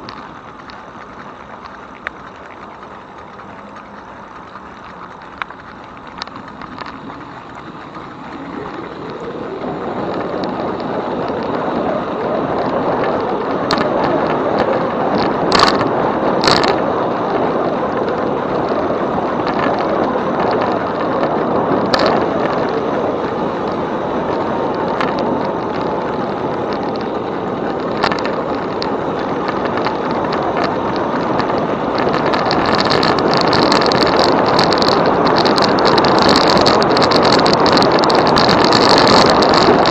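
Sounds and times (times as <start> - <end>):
sharp clicks and rattles: 0.0 - 39.9
tyre and wind noise: 0.0 - 39.9.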